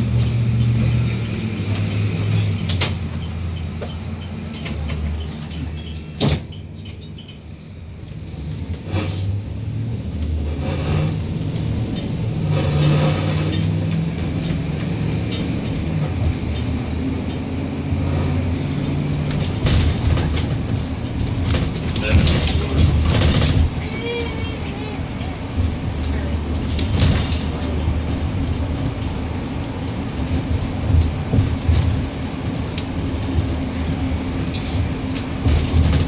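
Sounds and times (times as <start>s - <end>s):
bus engine running: 0.0s - 36.0s.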